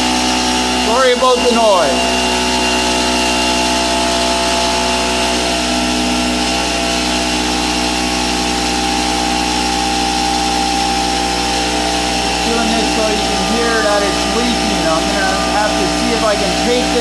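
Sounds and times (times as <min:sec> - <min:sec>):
air compressor running: 0:00.0 - 0:17.0.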